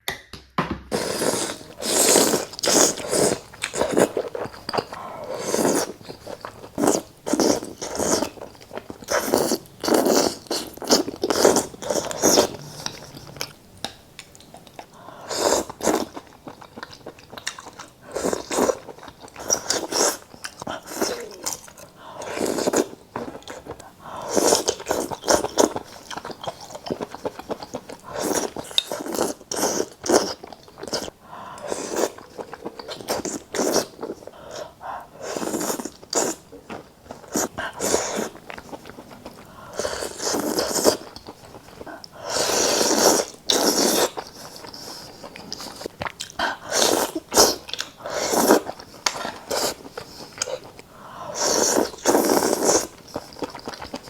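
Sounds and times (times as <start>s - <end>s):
crunchy chewing: 0.9s - 13.6s, 14.2s - 54.0s.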